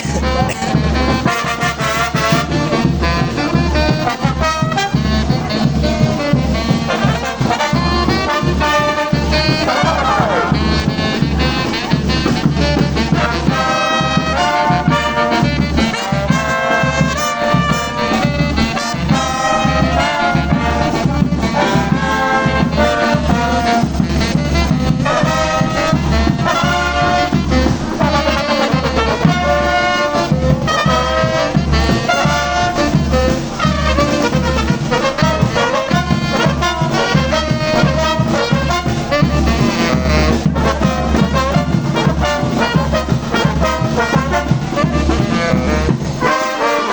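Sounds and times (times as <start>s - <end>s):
brass orchestra playing: 0.0s - 46.9s.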